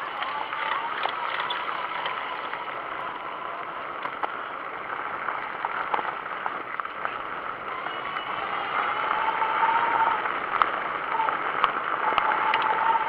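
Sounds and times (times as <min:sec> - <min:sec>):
bike tyres on dirt track: 0:00.0 - 0:13.0
small clicks and rattles: 0:00.0 - 0:13.0.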